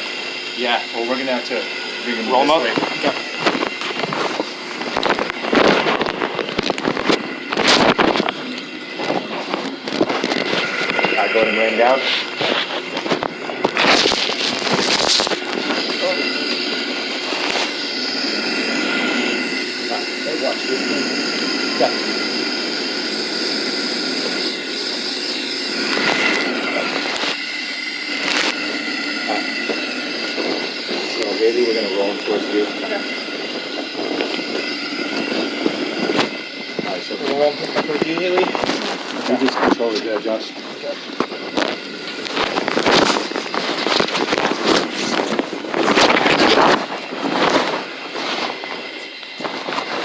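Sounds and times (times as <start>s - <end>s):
mechanical hum and hiss: 0.0s - 50.0s.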